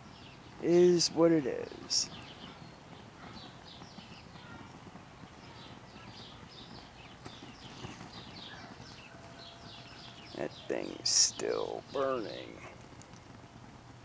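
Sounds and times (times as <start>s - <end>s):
fire crackling and ticking: 0.0s - 14.0s.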